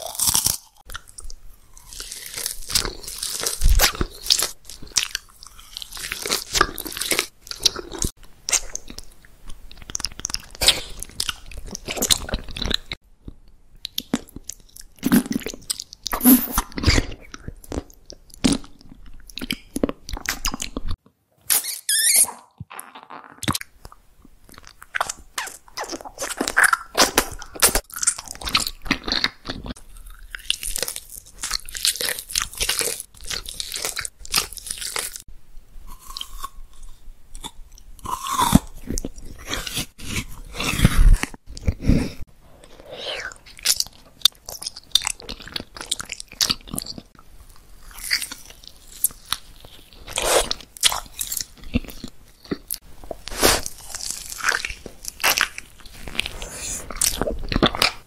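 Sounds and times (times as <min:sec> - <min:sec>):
crunching and chewing candy: 0:00.0 - 0:21.0, 0:22.7 - 0:58.0.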